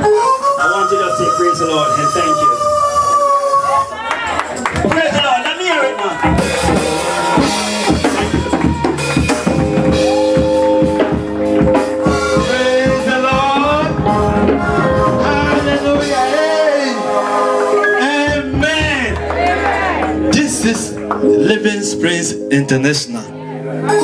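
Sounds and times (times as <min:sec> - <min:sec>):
live reggae band playing: 0:00.0 - 0:24.0.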